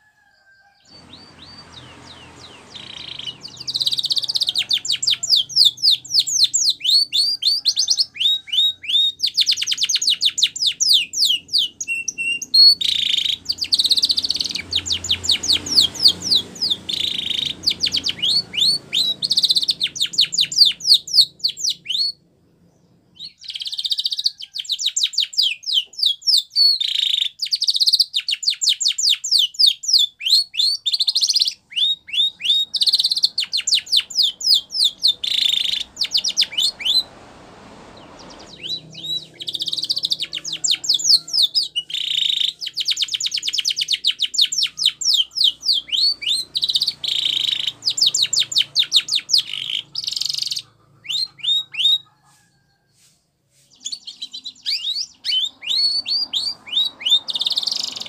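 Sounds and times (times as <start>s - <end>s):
canary singing trills: 0.5s - 52.8s, 53.7s - 58.0s.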